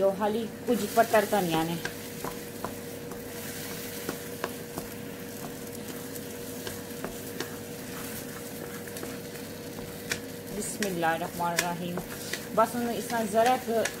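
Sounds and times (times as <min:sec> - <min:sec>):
food sizzling in pan: 0:00.2 - 0:14.0
wooden spatula scraping pan: 0:01.9 - 0:14.0.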